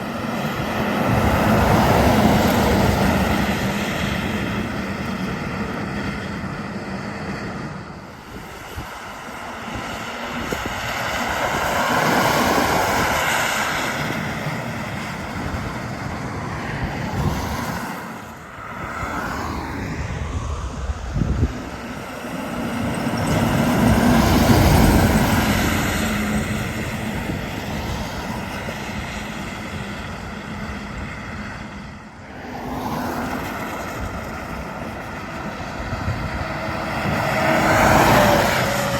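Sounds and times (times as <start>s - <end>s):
heavy trucks passing: 0.0s - 38.9s.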